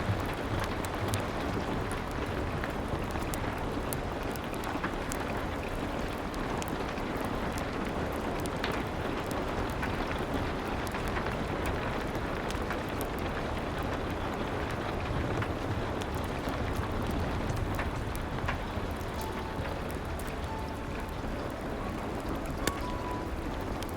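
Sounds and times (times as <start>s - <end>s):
steady rain: 0.0s - 23.9s
wood fire crackling: 0.0s - 23.9s.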